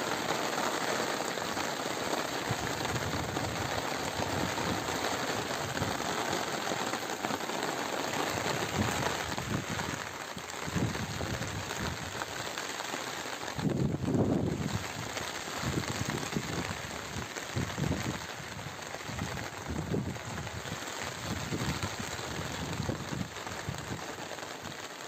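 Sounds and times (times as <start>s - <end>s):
rain on leaves and plastic pots: 0.0s - 25.0s.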